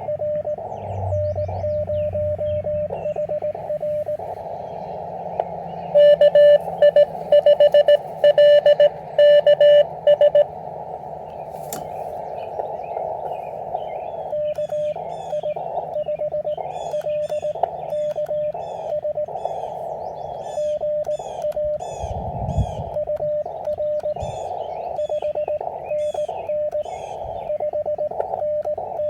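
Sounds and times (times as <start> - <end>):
morse code tone: 0.0 - 4.5, 5.8 - 10.6, 13.6 - 29.0
receiver hiss: 0.0 - 29.0
small birds chirping: 0.0 - 29.0.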